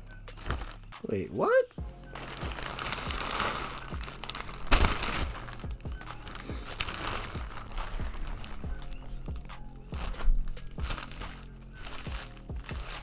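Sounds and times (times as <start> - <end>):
loud plastic crackle: 0.4 - 0.8, 2.1 - 13.0
plastic packaging crinkling: 0.4 - 0.8, 2.1 - 13.0.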